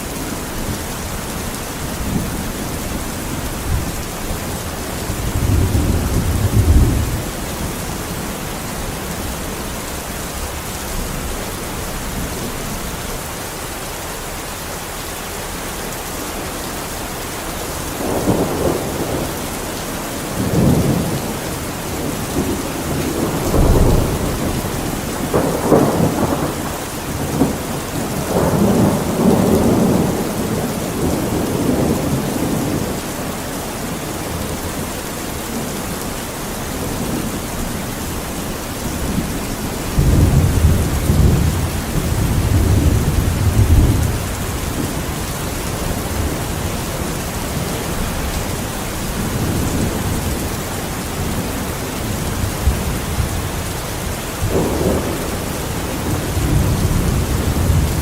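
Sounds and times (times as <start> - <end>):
thunder rumbling: 0.0 - 13.0, 17.4 - 36.0, 36.6 - 58.0
heavy rain: 0.0 - 58.0.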